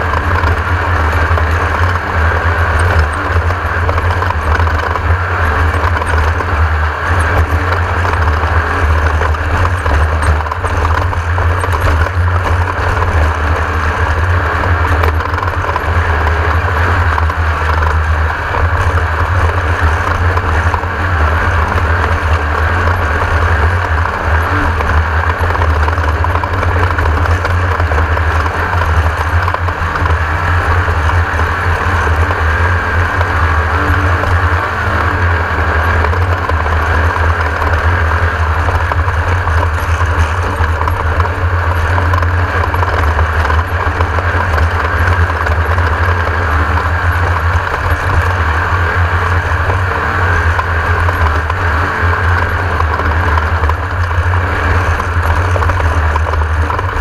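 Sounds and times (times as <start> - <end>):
race buggy engine at speed: 0.0 - 57.0.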